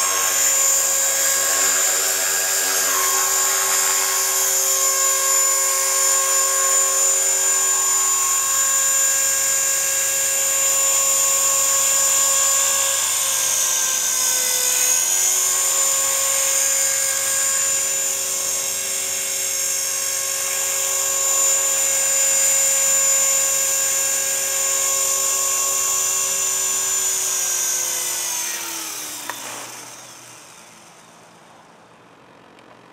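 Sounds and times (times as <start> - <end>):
rc helicopter motor whine: 0.0 - 32.9.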